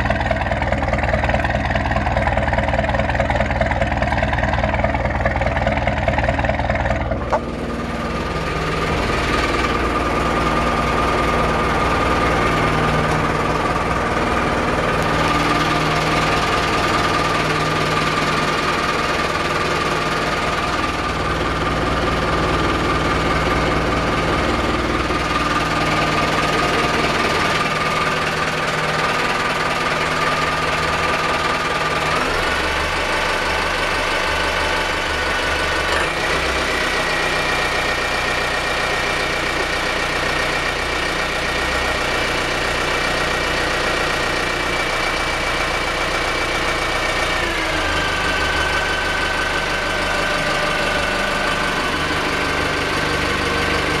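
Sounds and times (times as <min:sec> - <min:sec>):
boat diesel engine running: 0:00.0 - 0:54.0.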